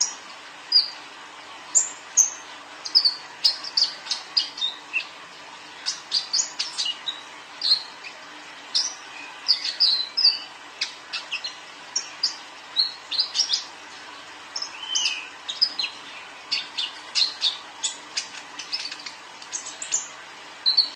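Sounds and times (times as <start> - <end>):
bird twittering song: 0.0 - 1.0, 1.7 - 5.2, 5.8 - 13.8, 14.5 - 20.9.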